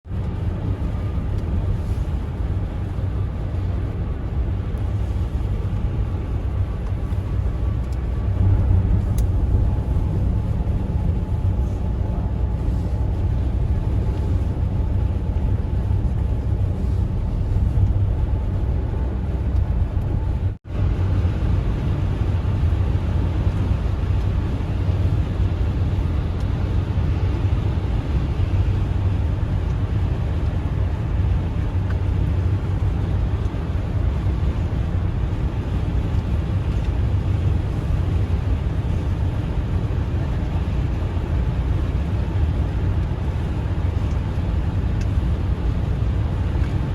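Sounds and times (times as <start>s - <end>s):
car road and engine rumble: 0.0s - 46.9s.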